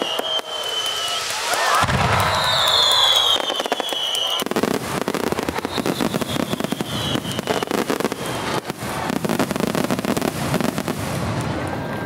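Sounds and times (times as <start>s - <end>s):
fireworks bangs and crackling: 0.0s - 12.0s
high firework whistle: 0.0s - 12.0s.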